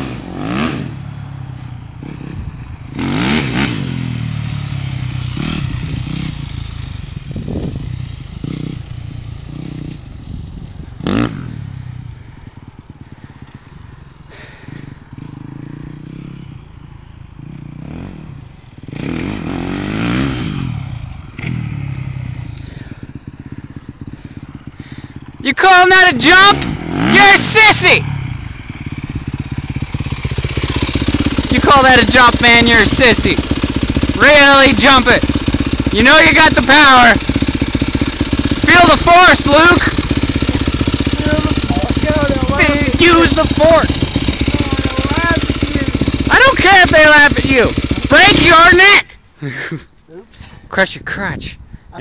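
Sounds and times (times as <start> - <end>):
motorcycle engine revving: 0.0 - 49.2.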